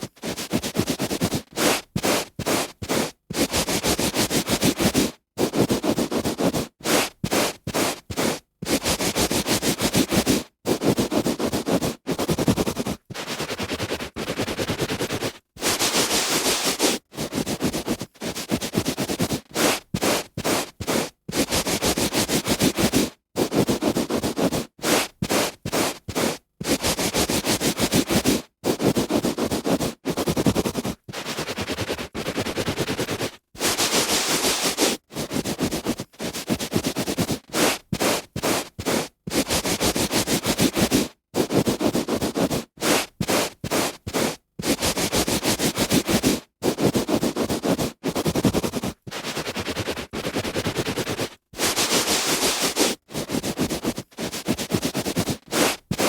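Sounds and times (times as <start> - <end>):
hand rubbing on carpet: 0.0 - 56.0.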